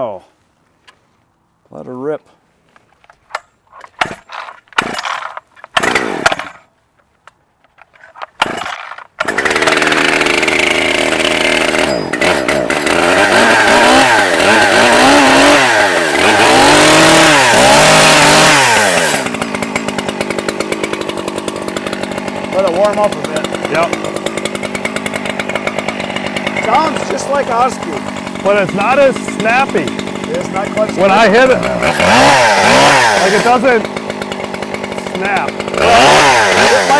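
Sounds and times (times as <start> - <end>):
starter cord pulls: 3.0 - 6.6, 7.2 - 36.9
chainsaw revving and idling: 4.0 - 6.6, 8.4 - 36.9.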